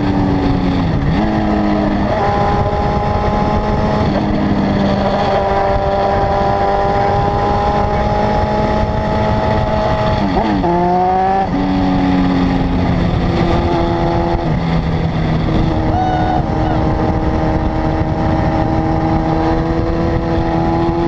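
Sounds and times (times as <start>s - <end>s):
motorcycle engine and exhaust: 0.0s - 21.0s.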